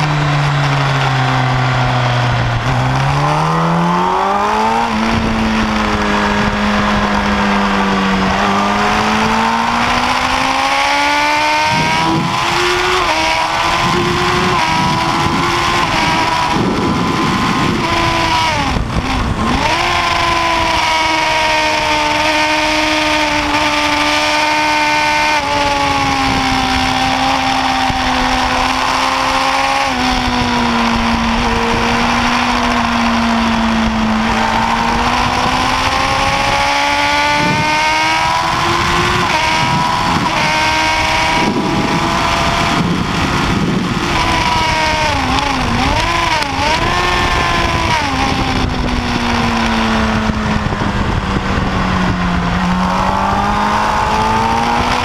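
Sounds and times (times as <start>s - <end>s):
motorcycle engine revving high: 0.0s - 55.0s
wind rushing over microphone: 0.0s - 55.0s.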